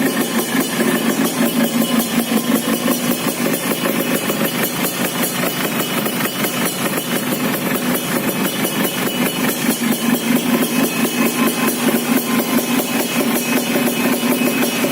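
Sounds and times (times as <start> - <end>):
two-stroke engine idling: 0.0 - 14.9.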